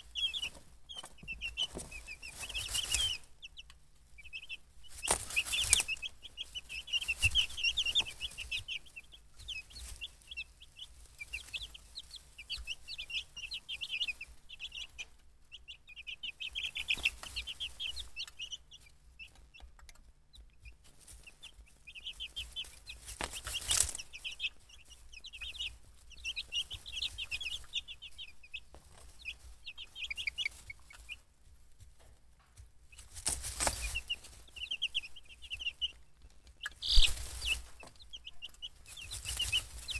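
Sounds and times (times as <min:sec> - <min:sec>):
chicks peeping: 0:00.0 - 0:39.9
rustling: 0:00.0 - 0:39.9.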